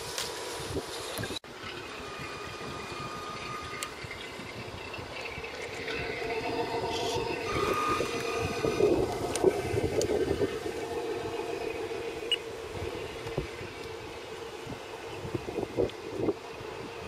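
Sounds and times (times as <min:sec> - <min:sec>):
model boat mechanical hum: 0:00.0 - 0:17.0
held engine-sound tones: 0:00.1 - 0:17.0.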